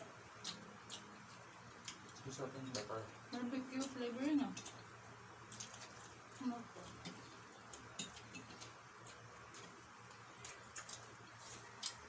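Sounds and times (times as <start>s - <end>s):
people chewing food: 0.0s - 12.0s.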